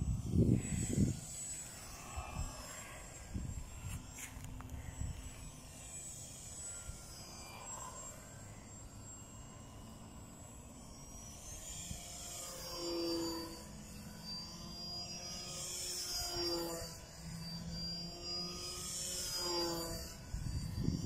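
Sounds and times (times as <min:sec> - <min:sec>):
model airplane motor buzzing: 0:00.0 - 0:21.0.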